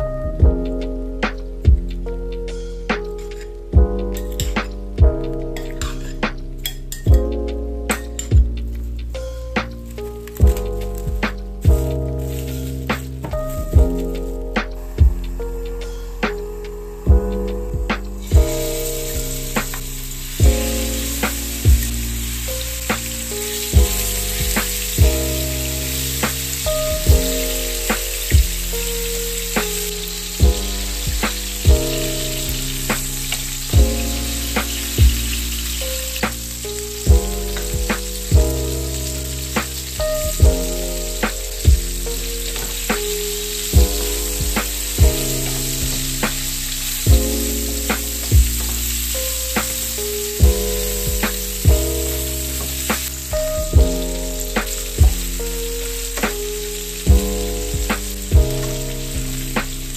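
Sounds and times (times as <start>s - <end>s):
background music with beat: 0.0s - 59.9s
chicken sizzling in oil: 9.6s - 14.8s, 16.1s - 59.9s.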